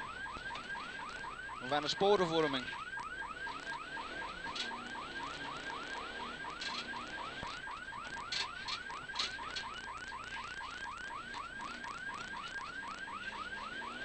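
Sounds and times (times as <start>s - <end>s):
yelping warning siren: 0.0s - 14.0s.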